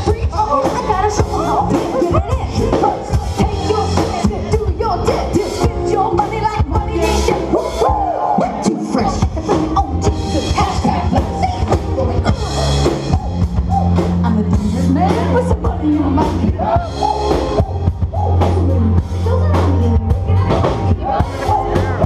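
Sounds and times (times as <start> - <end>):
crowd chatter: 0.0 - 22.0
live band with singer: 0.0 - 22.0.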